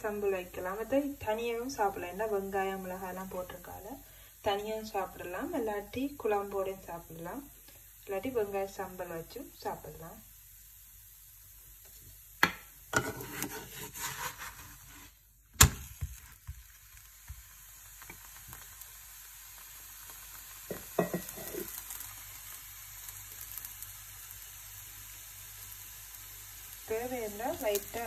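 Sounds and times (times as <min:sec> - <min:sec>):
flatbread sizzling in a pan: 0:00.0 - 0:28.0.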